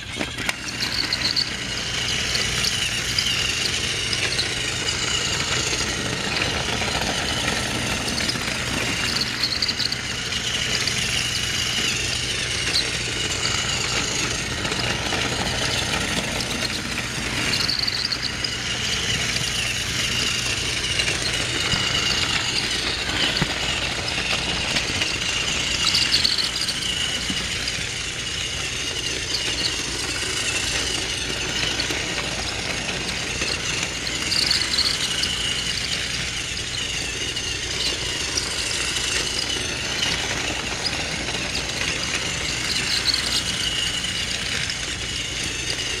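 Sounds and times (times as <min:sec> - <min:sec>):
toy train motor whine with rattle: 0:00.0 - 0:46.0.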